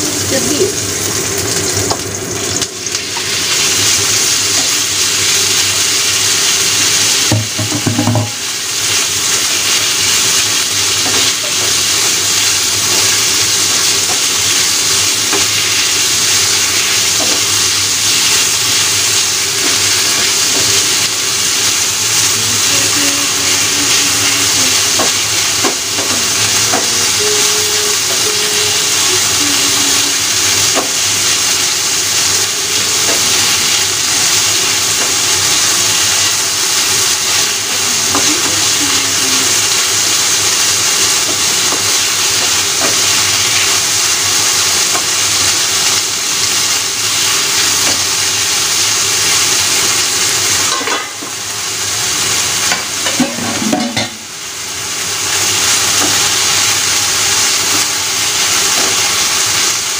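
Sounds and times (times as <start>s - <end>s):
beef sizzling in frying pan: 0.0s - 59.9s.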